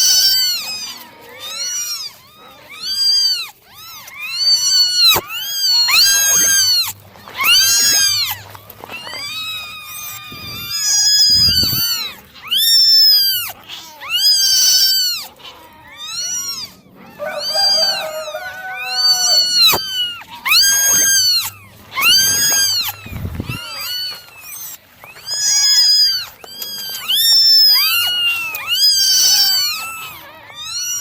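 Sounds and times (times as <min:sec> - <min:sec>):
kittens meowing: 0:00.0 - 0:31.0.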